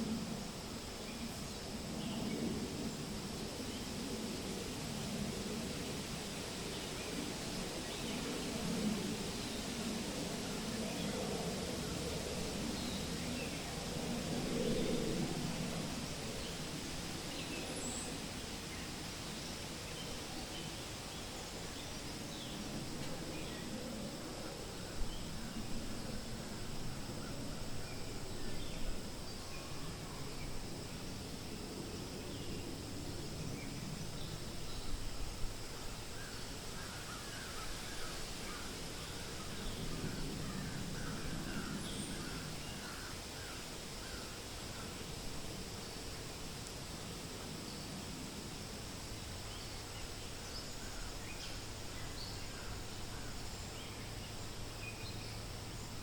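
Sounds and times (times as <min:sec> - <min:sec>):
wind rustling through leaves: 0:00.0 - 0:56.0.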